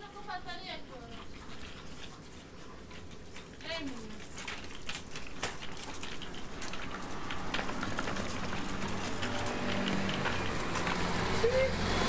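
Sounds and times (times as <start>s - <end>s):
low street hum: 0.0s - 12.0s.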